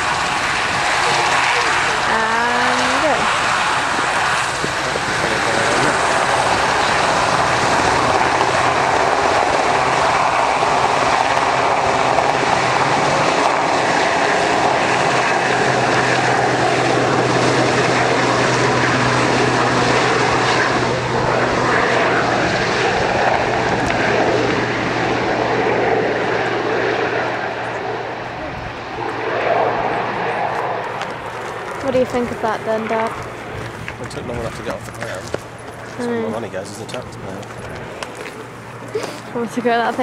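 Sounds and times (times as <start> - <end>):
aircraft engine running: 0.0 - 40.0.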